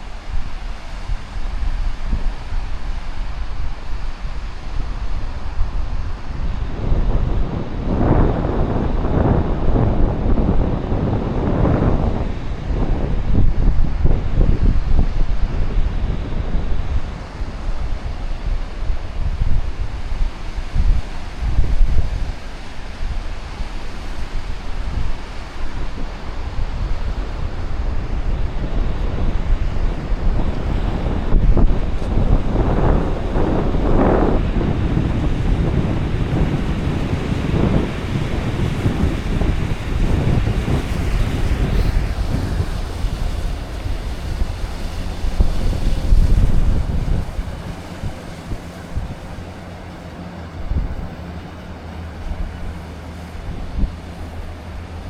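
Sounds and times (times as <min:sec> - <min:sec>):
sea waves washing on shore: 0:00.0 - 0:55.0
wind gusting on microphone: 0:00.0 - 0:55.0.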